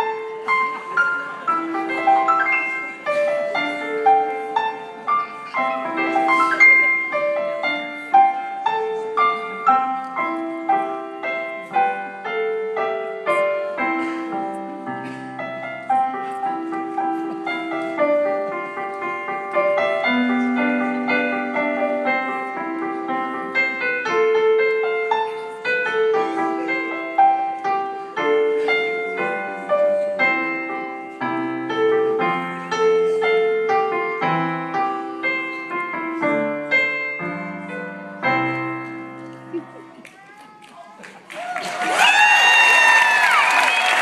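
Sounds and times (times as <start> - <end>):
gentle piano melody: 0.0 - 40.3.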